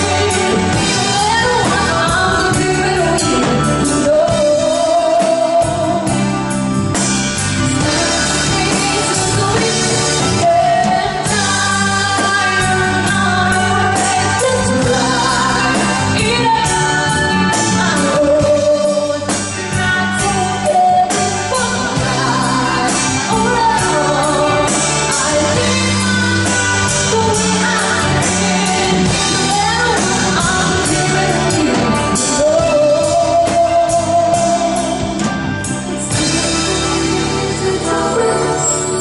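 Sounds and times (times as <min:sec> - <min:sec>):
band playing a song: 0:00.0 - 0:39.0
lead singer singing: 0:00.0 - 0:39.0.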